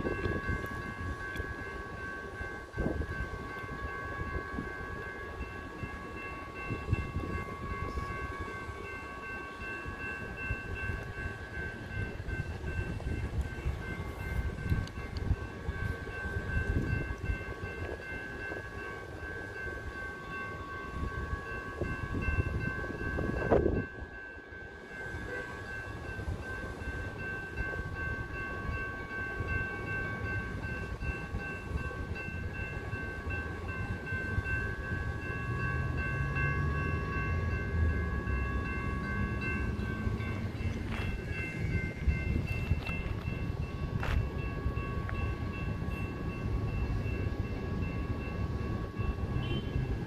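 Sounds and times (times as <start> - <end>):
railroad crossing bells ringing: 0.0 - 50.0.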